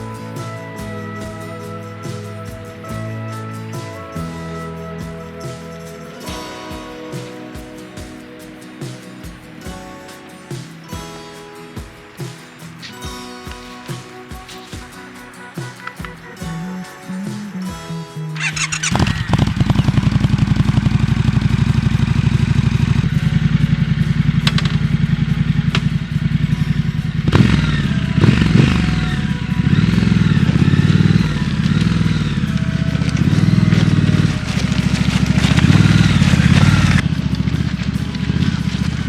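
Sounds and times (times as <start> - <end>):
motorcycle engine revving: 0.0 - 16.6, 18.4 - 39.0.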